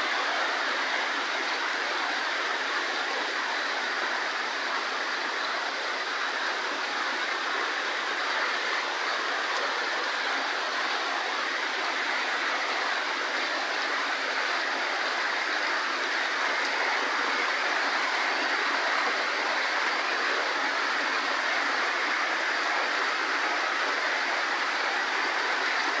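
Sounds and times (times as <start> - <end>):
heavy rain on leaves: 0.0 - 26.0.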